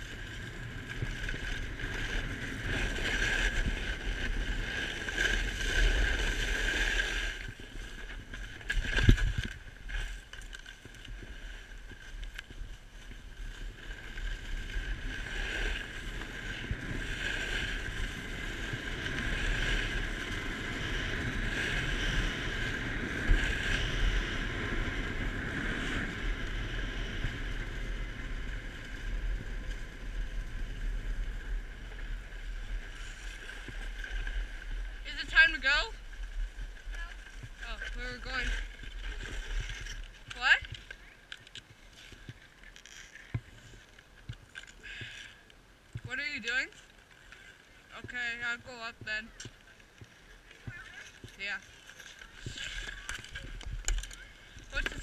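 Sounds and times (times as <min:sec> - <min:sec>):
snowboard scraping on snow: 0:00.0 - 0:44.2, 0:50.2 - 0:55.0.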